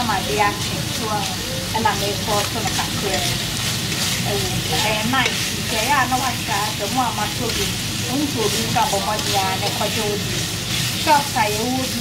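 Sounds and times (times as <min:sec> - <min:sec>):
shrimp sizzling in hot oil: 0:00.0 - 0:12.0
spatula turning food in pan: 0:00.0 - 0:12.0.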